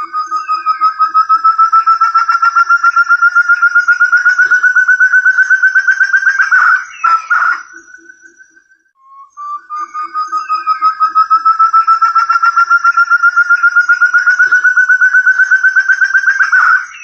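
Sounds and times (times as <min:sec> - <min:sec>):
partridge whistled calls: 0:00.0 - 0:17.0.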